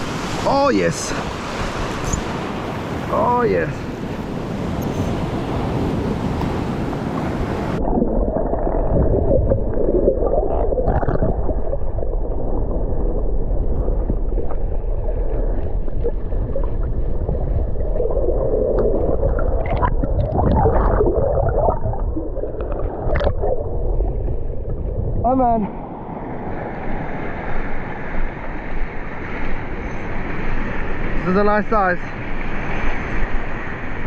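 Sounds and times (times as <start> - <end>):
muffled water sloshing and gurgling: 0.0 - 31.3.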